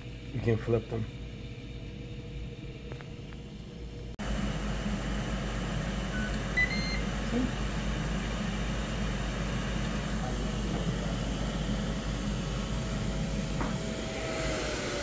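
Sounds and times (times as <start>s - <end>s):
grill fan whirring: 0.0s - 15.0s.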